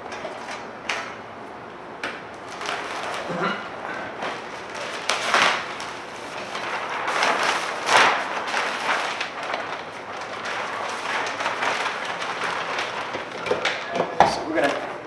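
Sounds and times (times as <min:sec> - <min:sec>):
plastic sheeting rustling and crinkling: 0:02.3 - 0:15.0.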